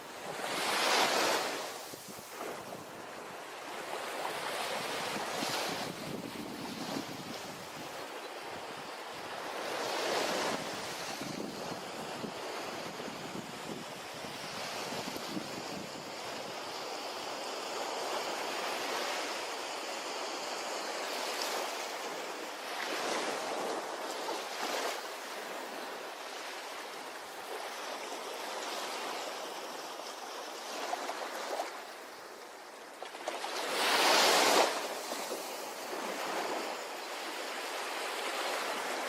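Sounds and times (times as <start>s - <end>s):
ocean waves breaking on a beach: 0.0s - 39.0s.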